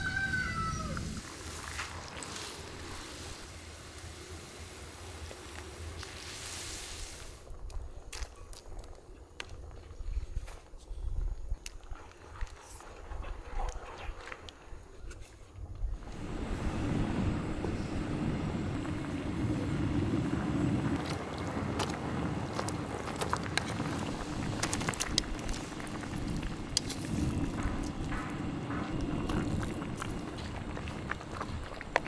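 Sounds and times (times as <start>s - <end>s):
sauce cooking with low rushing: 0.0s - 32.0s.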